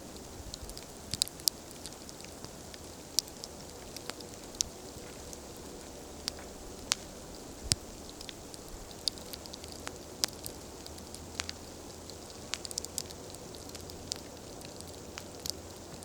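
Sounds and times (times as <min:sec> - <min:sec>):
campfire pops and snaps: 0:00.1 - 0:16.0.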